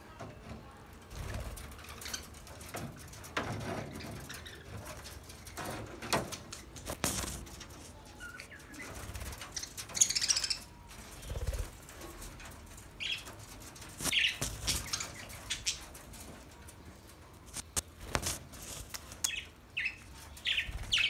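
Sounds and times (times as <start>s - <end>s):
wings fluttering: 1.1s - 21.0s.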